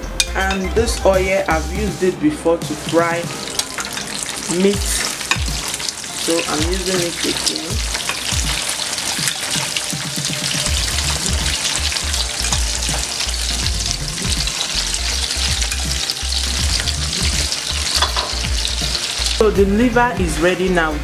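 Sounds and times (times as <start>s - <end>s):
liver deep-frying in oil: 2.6s - 19.5s.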